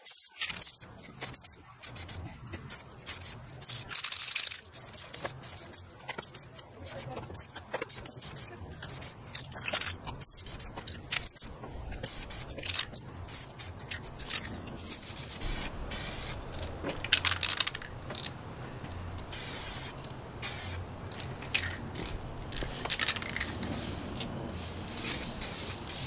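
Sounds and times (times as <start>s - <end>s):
spray-paint can hissing: 0.0s - 18.3s, 19.3s - 26.0s.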